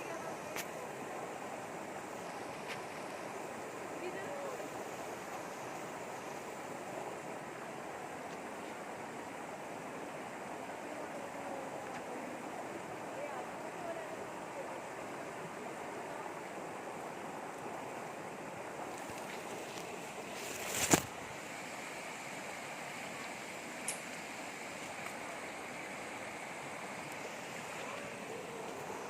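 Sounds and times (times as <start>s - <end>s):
river water flowing: 0.0s - 29.0s.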